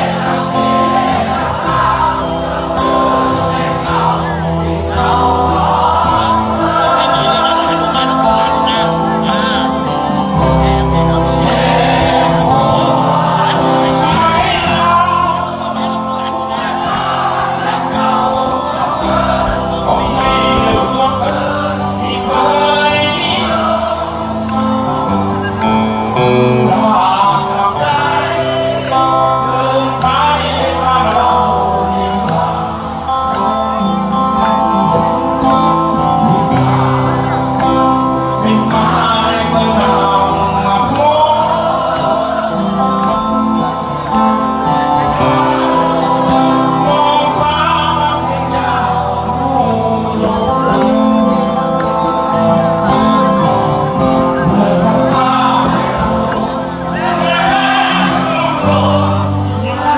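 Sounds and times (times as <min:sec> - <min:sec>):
lead singer singing: 0:00.0 - 0:59.9
live band playing: 0:00.0 - 0:59.9.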